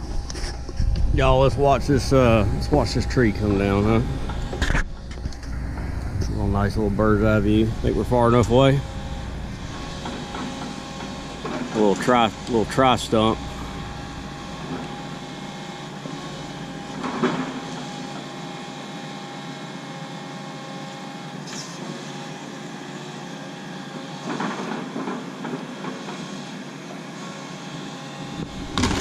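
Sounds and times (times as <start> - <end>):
excavator engine and hydraulic drone: 0.0 - 29.0
tree being worked noises: 0.0 - 29.0.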